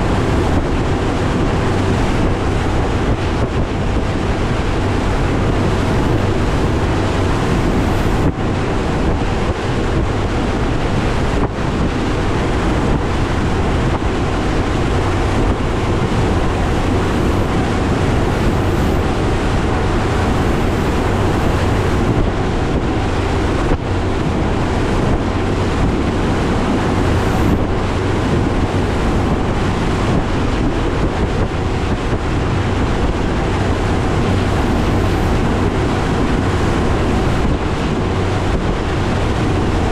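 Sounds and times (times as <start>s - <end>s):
hull going through rough water: 0.0s - 39.9s
outboard motor running: 0.0s - 39.9s
wind buffeting microphone: 0.0s - 39.9s.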